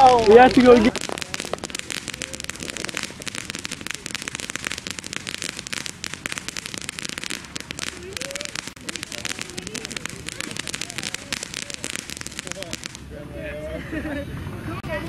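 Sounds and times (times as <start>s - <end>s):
dense crackling: 0.0s - 13.1s.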